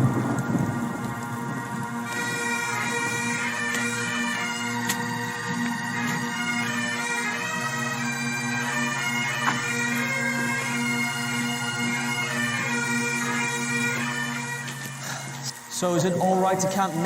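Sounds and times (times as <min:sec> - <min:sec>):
bagpipe chanter melody: 0:00.0 - 0:17.0
bagpipe drones: 0:00.0 - 0:17.0.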